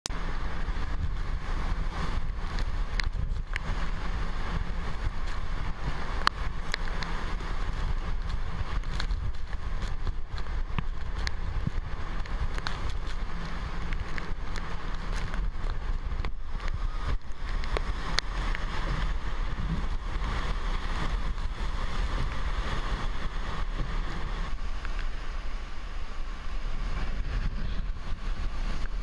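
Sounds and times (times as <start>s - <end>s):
driving rain: 0.1s - 29.0s
strong wind on microphone: 0.1s - 29.0s.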